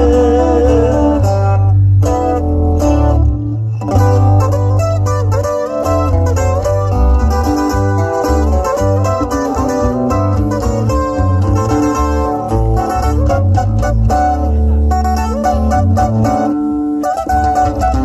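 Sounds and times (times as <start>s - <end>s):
acoustic guitars picking melody: 0.0s - 18.0s
electric bass line: 0.0s - 18.0s.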